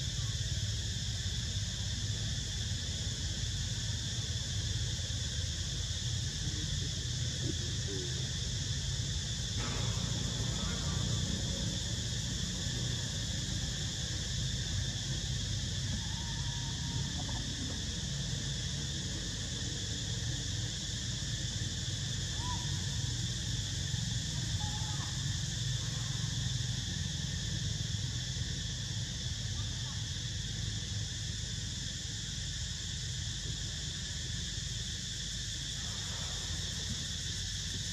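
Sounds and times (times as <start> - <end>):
constant low rumble: 0.0 - 37.9
high-pitched insect chorus: 0.0 - 37.9.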